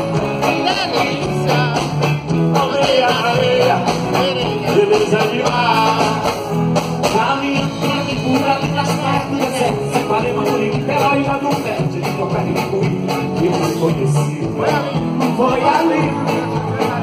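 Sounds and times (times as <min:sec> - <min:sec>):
live band music: 0:00.0 - 0:17.0
male lead singer: 0:00.0 - 0:17.0.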